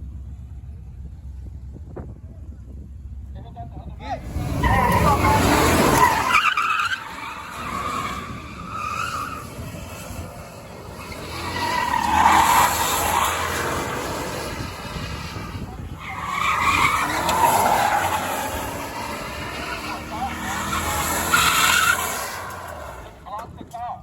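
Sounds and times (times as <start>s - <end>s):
tires screeching: 0.0s - 24.0s
car engine revving: 4.1s - 23.5s.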